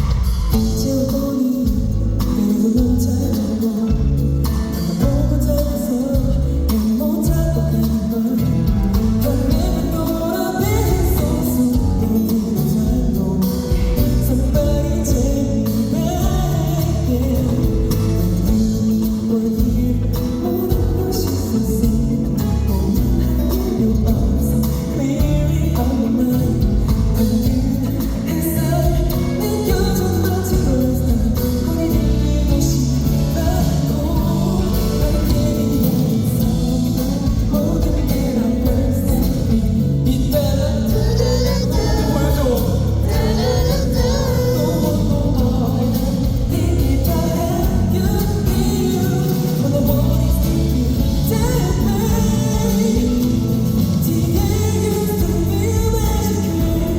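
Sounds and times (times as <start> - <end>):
band accompaniment: 0.0 - 56.9
man singing: 0.0 - 56.9.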